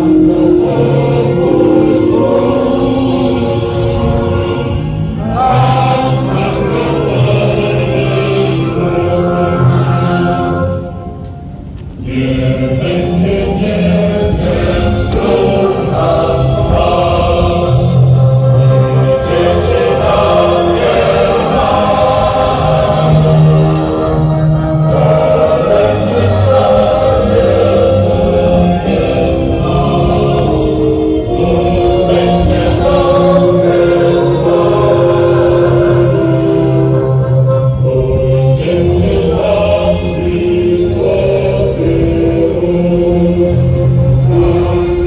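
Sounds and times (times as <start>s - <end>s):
choir singing: 0.0s - 45.0s.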